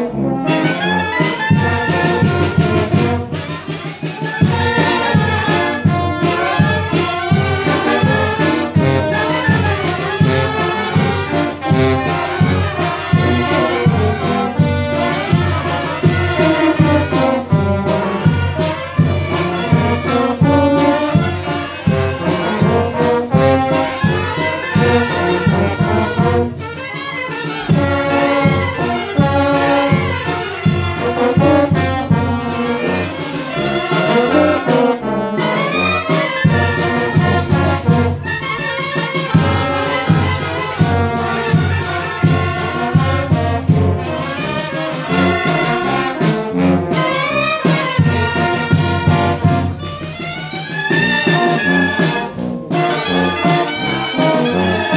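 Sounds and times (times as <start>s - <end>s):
wind band playing lively tune: 0.0s - 54.9s.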